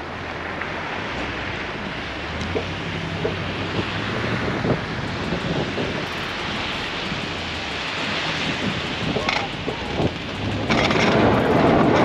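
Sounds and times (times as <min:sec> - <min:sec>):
plow pushing wet slush: 0:00.0 - 0:12.0
truck engine hum: 0:00.0 - 0:12.0.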